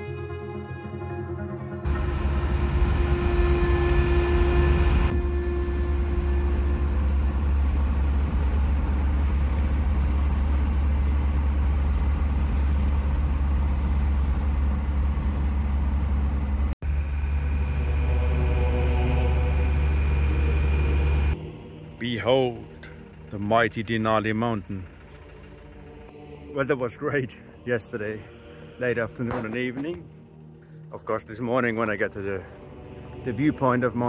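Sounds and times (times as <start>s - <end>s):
engine and road rumble: 0.0s - 31.1s.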